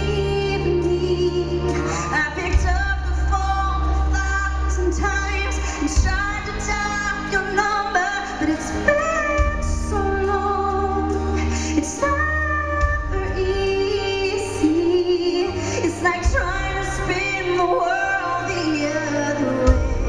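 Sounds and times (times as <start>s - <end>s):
band accompaniment: 0.0s - 20.0s
woman singing: 0.0s - 20.0s.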